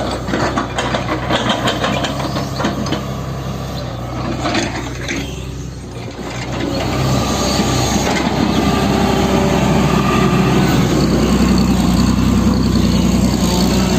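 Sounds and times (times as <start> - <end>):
diesel engine rattling: 0.0 - 13.9.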